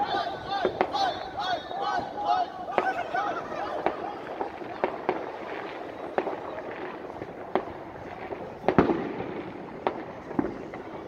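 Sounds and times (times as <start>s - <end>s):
distant fireworks bangs: 0.0s - 11.0s.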